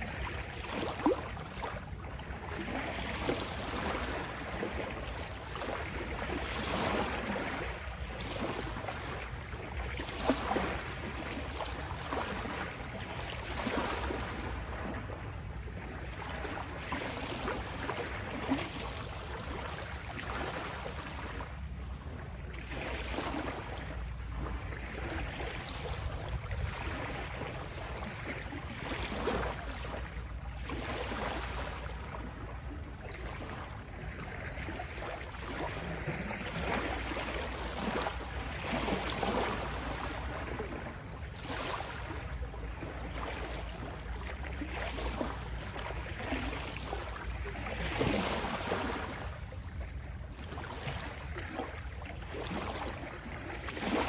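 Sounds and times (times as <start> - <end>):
small waves lapping at shore: 0.0 - 54.0.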